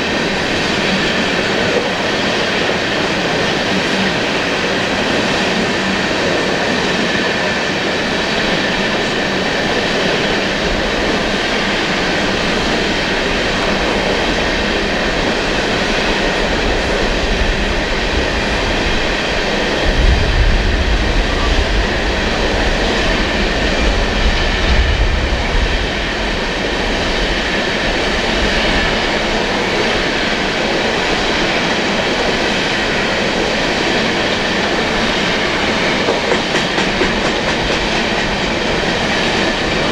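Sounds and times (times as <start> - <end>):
low train rumble: 0.0 - 39.9
train wheels clattering on rail: 0.0 - 39.9.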